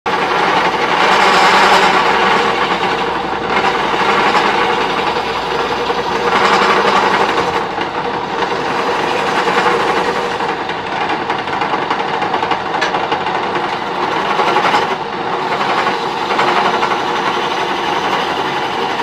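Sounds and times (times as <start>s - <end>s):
chisel scraping wood on lathe: 0.1s - 19.0s.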